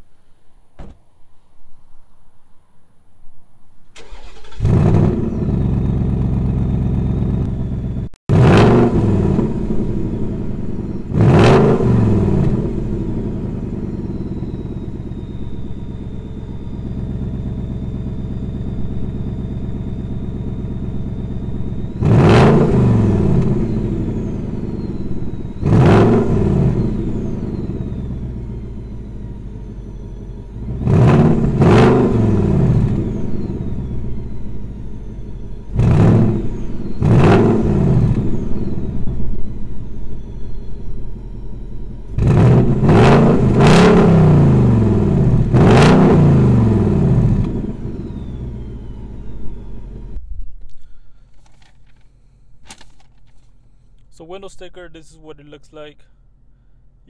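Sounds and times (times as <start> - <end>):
car engine idling and revving: 3.9 - 57.0.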